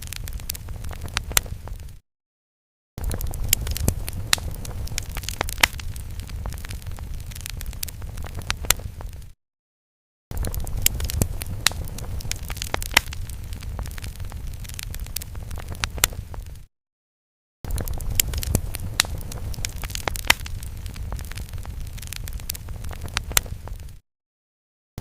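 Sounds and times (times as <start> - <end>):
fire crackling: 0.0 - 2.0, 3.0 - 9.4, 10.3 - 16.7, 17.7 - 24.0.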